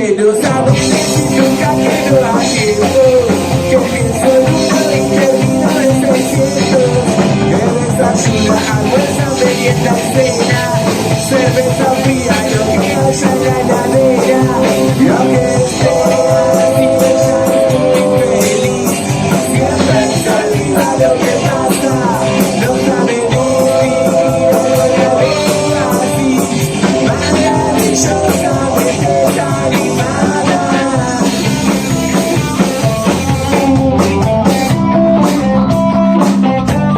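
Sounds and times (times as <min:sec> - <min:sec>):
distorted electric guitars: 0:00.0 - 0:36.9
drum kit: 0:00.0 - 0:36.9
person singing: 0:00.0 - 0:36.9
punk rock band playing live: 0:00.0 - 0:36.9.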